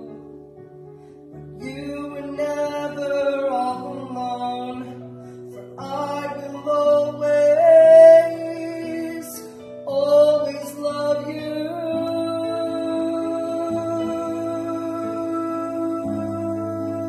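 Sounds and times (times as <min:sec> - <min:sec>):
man singing a slow ballad: 0:00.0 - 0:00.3, 0:01.5 - 0:17.0
electronic keyboard chords: 0:00.0 - 0:17.0.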